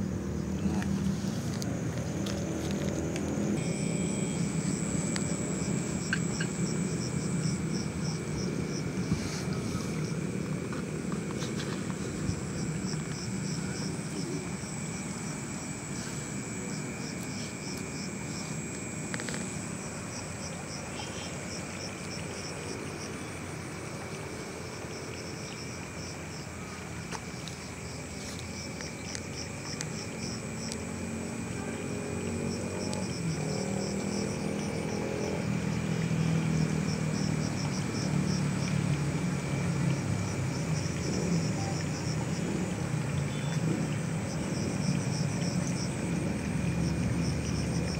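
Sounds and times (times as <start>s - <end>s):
cricket chirping: 0.0s - 47.9s
high insect trill: 0.0s - 47.9s.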